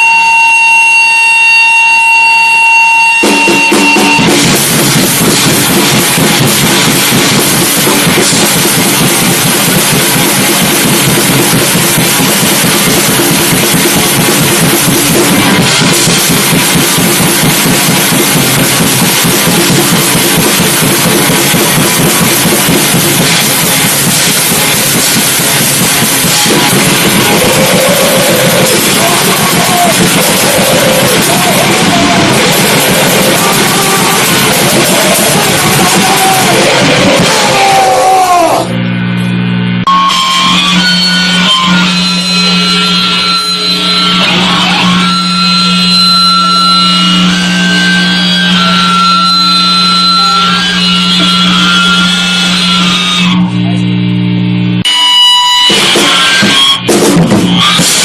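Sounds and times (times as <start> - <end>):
steady high tone: 0.0 - 56.9
live rock band playing: 3.2 - 38.7, 39.9 - 53.4, 54.8 - 58.0.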